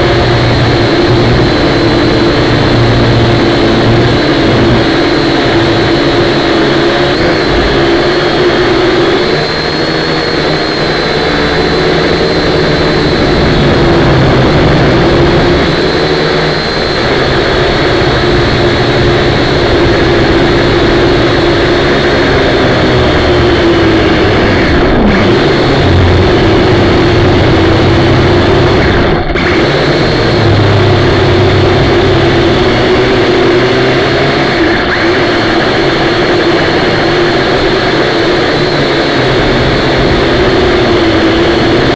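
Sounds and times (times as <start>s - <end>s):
drone propellers buzzing: 0.0s - 41.9s.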